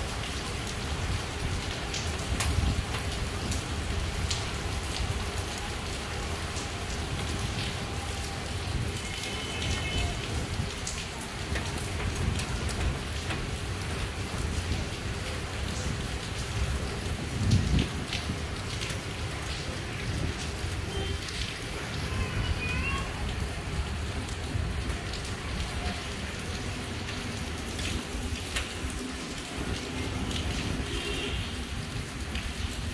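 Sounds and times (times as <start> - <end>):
heavy rain falling: 0.0 - 32.9
raindrops tapping nearby: 0.0 - 32.9.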